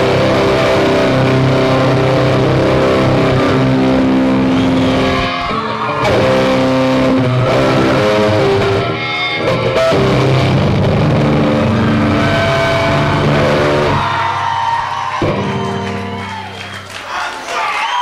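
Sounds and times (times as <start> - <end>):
electric guitar chords: 0.0 - 16.7
live rock band: 0.0 - 17.0.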